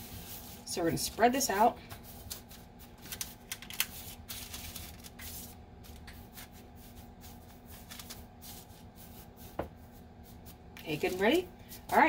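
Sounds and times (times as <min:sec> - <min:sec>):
hand rustling powder on paper: 0:00.0 - 0:12.0.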